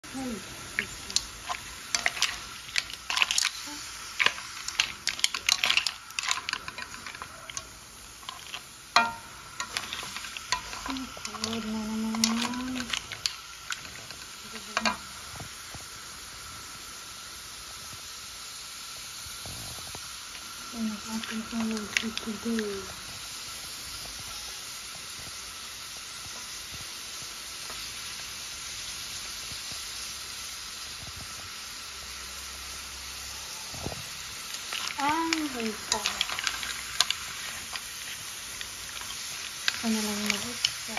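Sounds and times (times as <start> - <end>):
seafood sizzling in a pan: 0.0 - 40.9.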